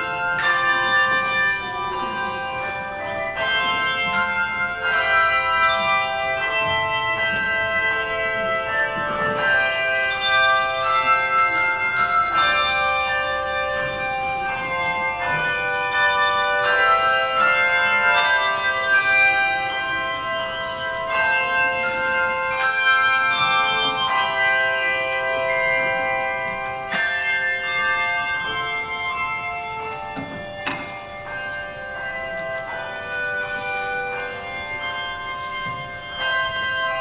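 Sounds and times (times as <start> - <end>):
handbell choir playing a hymn: 0.0 - 37.0.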